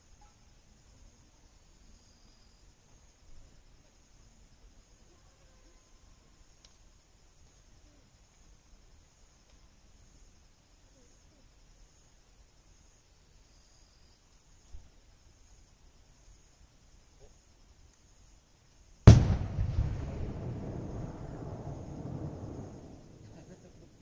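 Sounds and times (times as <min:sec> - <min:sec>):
faint insect chirring: 0:00.0 - 0:24.0.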